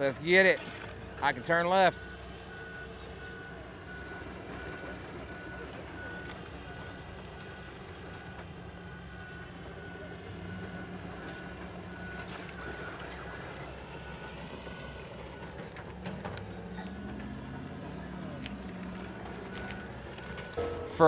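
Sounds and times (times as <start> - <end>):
rc truck running on dirt: 0.0 - 8.6, 10.4 - 21.0
construction machinery drone: 0.0 - 21.0.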